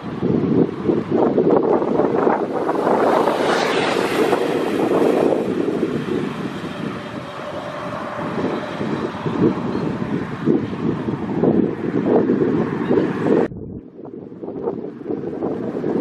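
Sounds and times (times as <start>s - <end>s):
faint vehicle hum: 0.0s - 16.0s
wind buffeting microphone: 0.0s - 16.0s.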